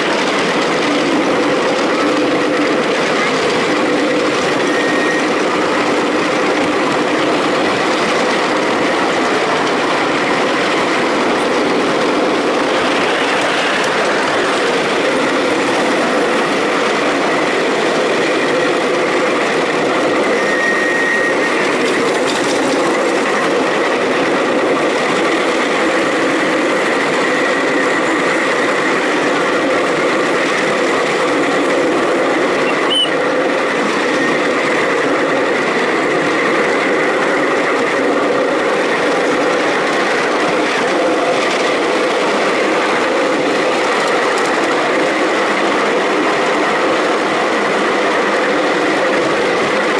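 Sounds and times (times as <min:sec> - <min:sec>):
locomotive motor hum: 0:00.0 - 0:49.9
small wheels rolling on rails: 0:00.0 - 0:49.9.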